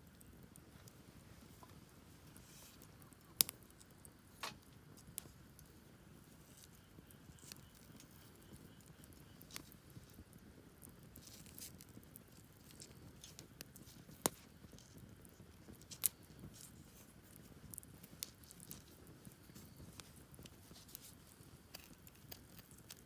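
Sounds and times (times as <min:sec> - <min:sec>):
campfire crackling: 0:00.0 - 0:23.0
fire snaps: 0:00.0 - 0:23.0.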